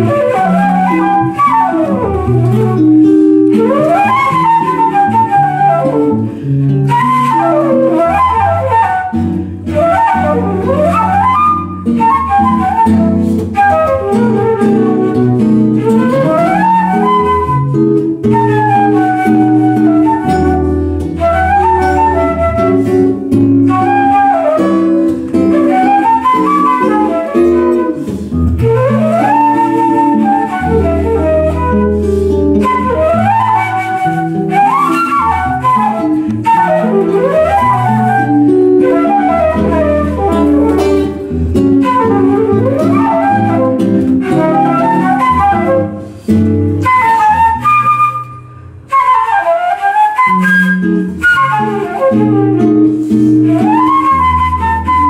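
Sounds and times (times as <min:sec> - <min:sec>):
flute playing jazz melody: 0:00.0 - 0:55.0
guitar chords: 0:00.0 - 0:55.0.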